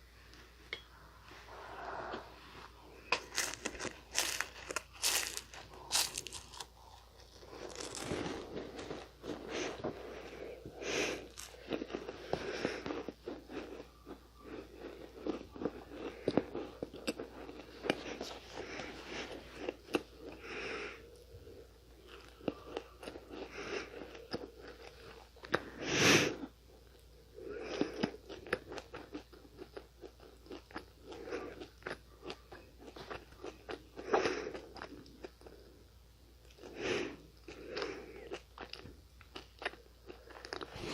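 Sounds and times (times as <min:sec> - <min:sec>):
crunchy eating of pastry snack: 0:01.5 - 0:40.9.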